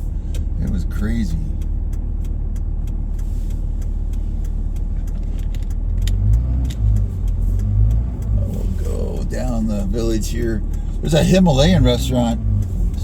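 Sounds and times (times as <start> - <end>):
car road and engine rumble: 0.0 - 13.0
heavy low bumps: 0.0 - 13.0
light clicks and rattles: 0.0 - 13.0.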